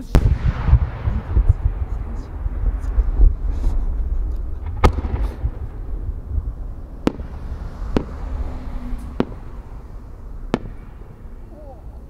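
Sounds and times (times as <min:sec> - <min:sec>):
low steady rumble: 0:00.0 - 0:12.0
firework shell bangs: 0:00.1 - 0:11.6.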